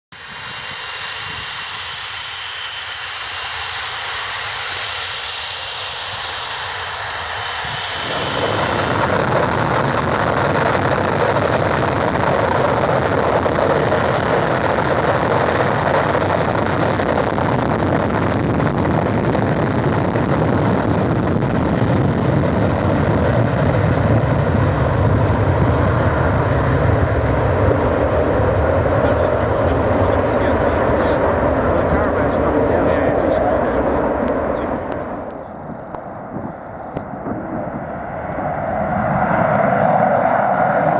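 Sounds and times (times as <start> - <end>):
jet engine whine and roar: 0.1 - 40.9.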